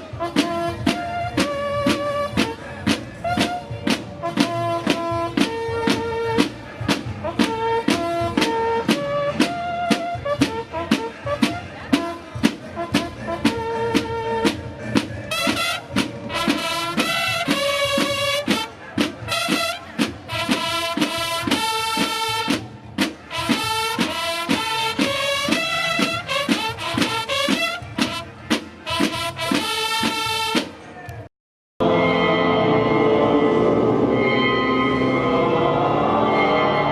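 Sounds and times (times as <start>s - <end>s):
brass instruments playing: 0.0s - 30.8s, 31.8s - 36.9s
steady drum beat: 0.0s - 30.8s.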